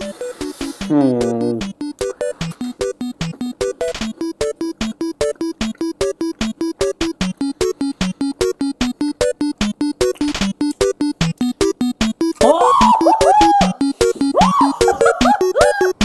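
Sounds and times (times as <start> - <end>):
staccato electronic keyboard music: 0.0 - 16.0.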